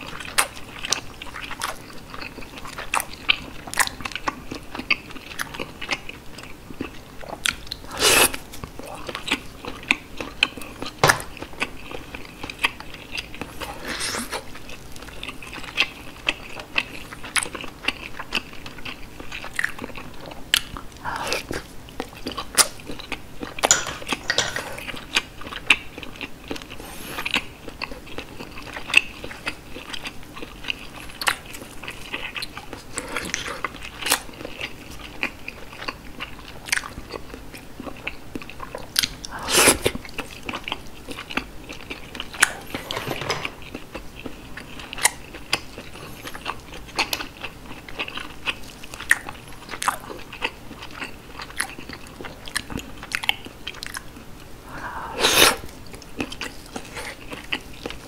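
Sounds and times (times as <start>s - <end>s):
close chewing: 0.0s - 58.0s.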